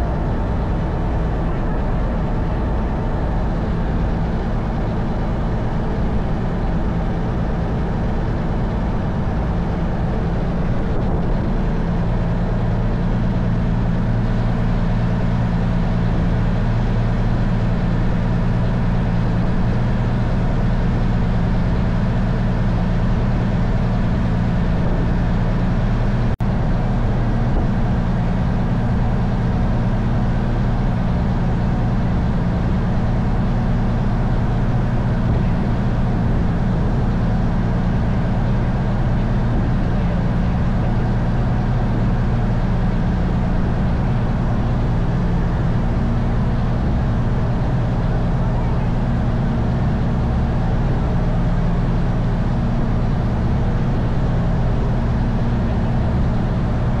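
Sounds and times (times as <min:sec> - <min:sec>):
boat diesel engine running: 0:00.0 - 0:57.0
wind: 0:00.0 - 0:57.0.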